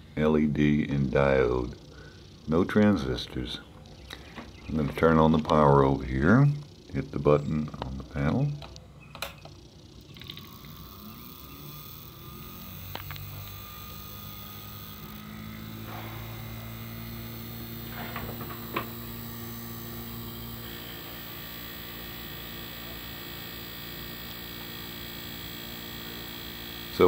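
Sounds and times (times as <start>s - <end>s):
electric motor humming: 0.0s - 27.0s.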